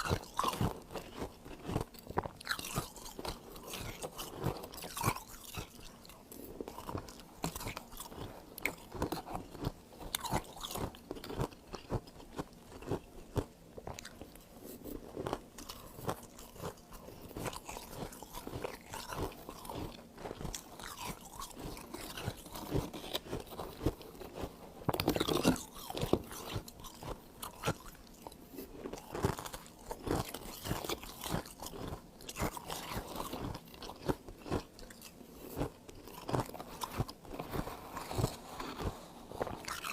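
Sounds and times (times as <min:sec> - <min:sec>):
frost being chewed crunchily: 0:00.0 - 0:39.9.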